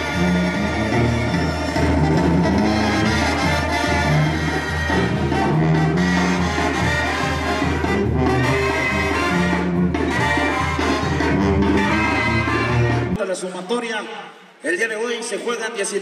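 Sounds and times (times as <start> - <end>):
brass band music: 0.0 - 13.5.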